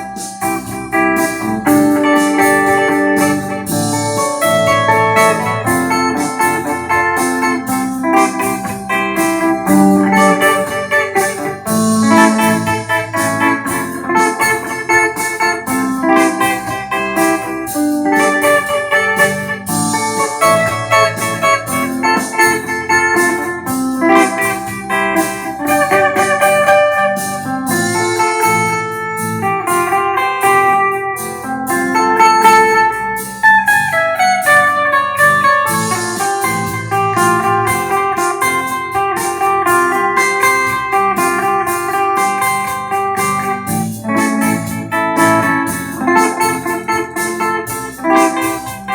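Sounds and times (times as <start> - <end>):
clean electric guitar: 0.0 - 48.9.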